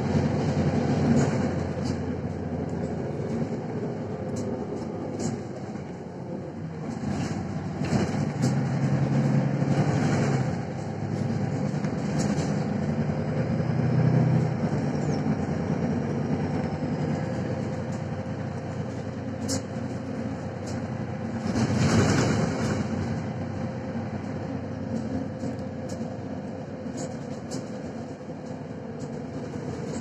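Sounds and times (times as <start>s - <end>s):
bus diesel engine running: 0.0s - 30.0s
road noise: 0.0s - 30.0s
interior clicks and rattles: 0.1s - 13.4s, 14.0s - 30.0s.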